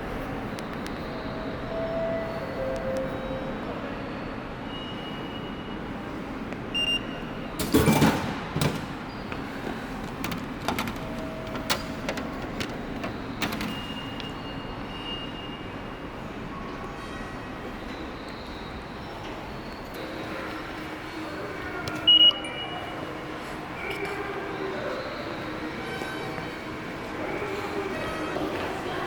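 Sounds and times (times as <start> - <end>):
train running noise from inside: 0.0 - 29.0.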